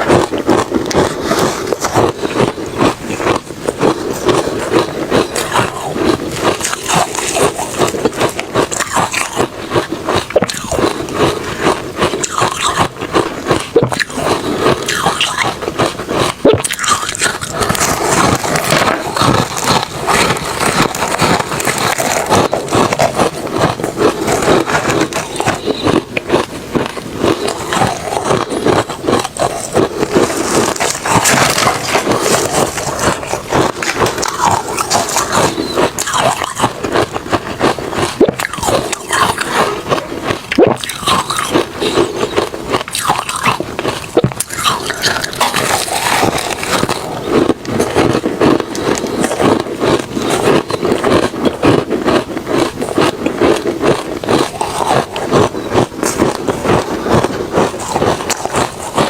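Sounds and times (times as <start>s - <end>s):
ice crunching being chewed: 0.0s - 59.0s.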